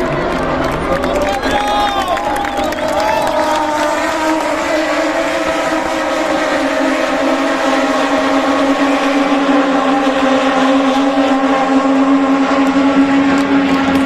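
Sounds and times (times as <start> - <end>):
racing motorcycles at high revs: 2.6 - 14.0.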